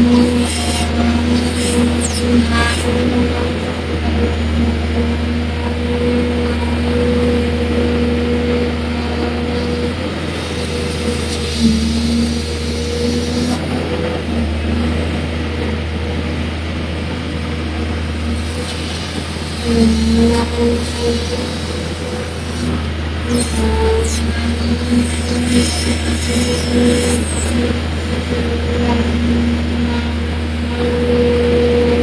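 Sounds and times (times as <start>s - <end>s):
diesel engine running: 0.0s - 32.0s
humming tone: 0.0s - 32.0s.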